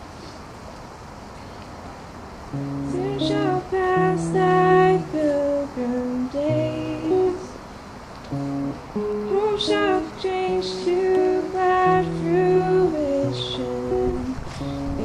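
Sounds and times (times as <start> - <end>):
acoustic guitar: 2.5 - 15.0
person singing slow melody: 2.5 - 15.0.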